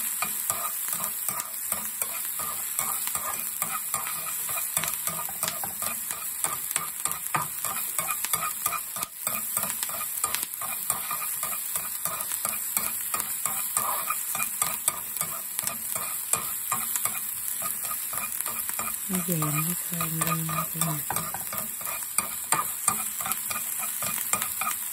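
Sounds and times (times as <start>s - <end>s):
onion sizzling in hot oil: 0.0s - 24.9s
chopsticks scraping a pan: 0.2s - 24.9s.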